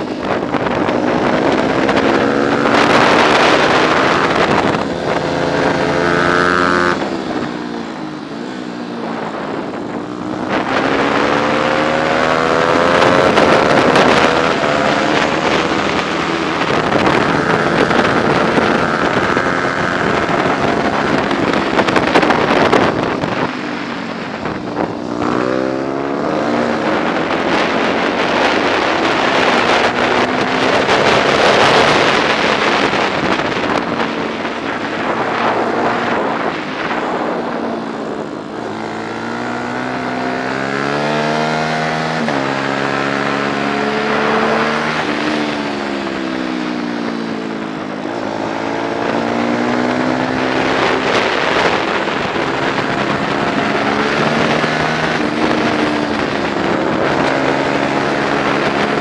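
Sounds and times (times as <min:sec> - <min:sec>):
racing motorcycle engine running hard: 0:00.0 - 0:59.0
wind rushing over microphone: 0:00.0 - 0:59.0.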